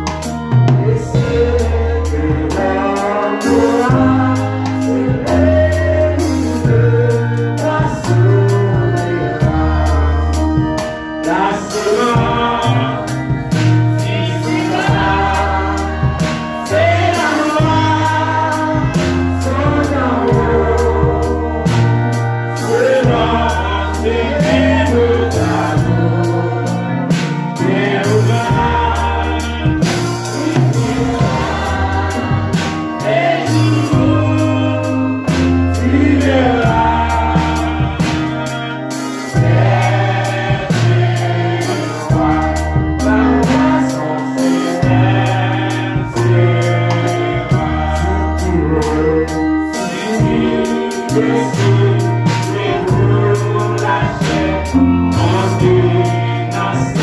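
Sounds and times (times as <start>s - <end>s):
low bass notes: 0.0s - 57.0s
voices singing a hymn: 0.0s - 57.0s.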